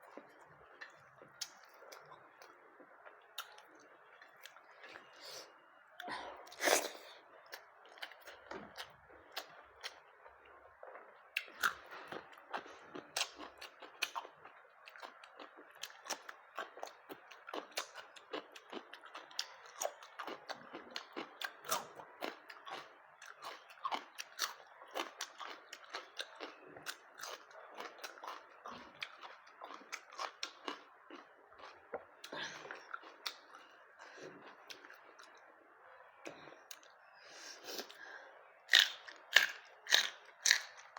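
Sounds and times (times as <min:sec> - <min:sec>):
person chewing with wet clicks: 0:00.0 - 0:05.2, 0:06.0 - 0:33.8, 0:34.4 - 0:35.5, 0:36.2 - 0:37.0, 0:38.7 - 0:40.9.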